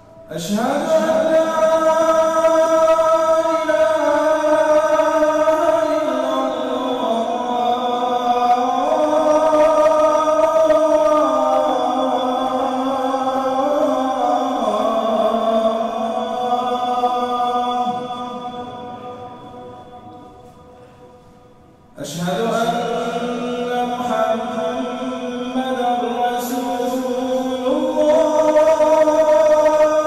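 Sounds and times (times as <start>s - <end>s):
man chanting into a microphone: 0.0s - 30.0s.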